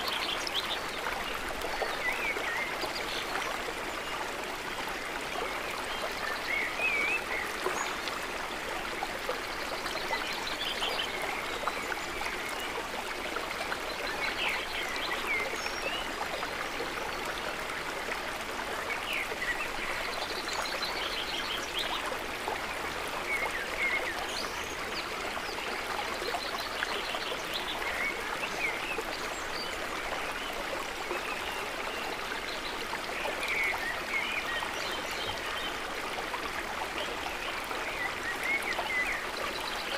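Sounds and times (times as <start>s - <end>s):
lake water trickling: 0.0s - 39.9s.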